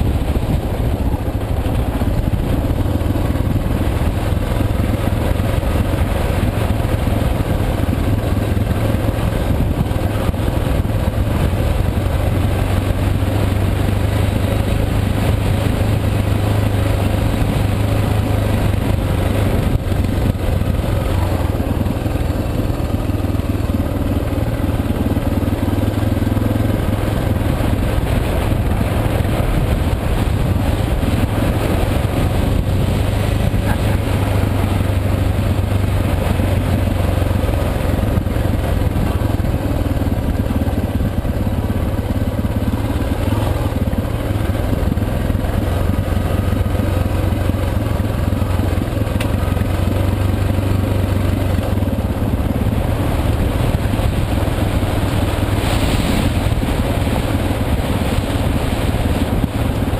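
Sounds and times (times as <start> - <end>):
wind rushing noise: 0.0 - 23.4, 26.6 - 44.1, 52.0 - 59.9
motorcycle engine running: 0.0 - 59.9.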